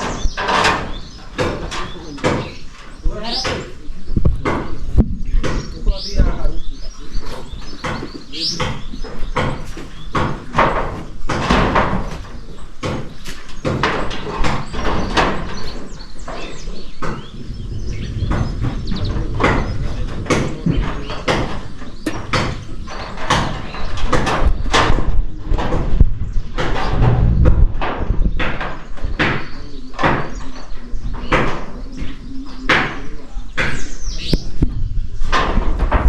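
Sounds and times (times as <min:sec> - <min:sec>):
sharp knocks and bangs: 0:00.0 - 0:36.0.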